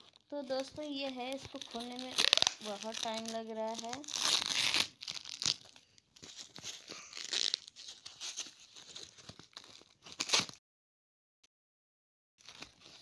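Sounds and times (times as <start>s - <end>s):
plastic wrap tearing and crinkling: 0.0s - 10.6s.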